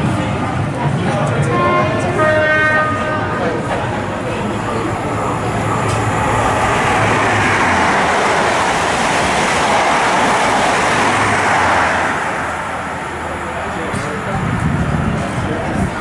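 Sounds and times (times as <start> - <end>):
steam train rumbling: 0.0 - 16.0.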